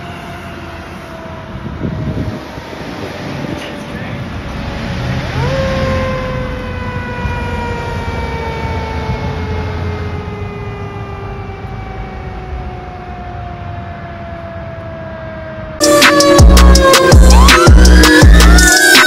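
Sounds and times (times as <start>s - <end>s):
mechanical siren wailing: 0.0s - 3.9s, 5.2s - 19.0s
low traffic rumble: 0.0s - 18.7s.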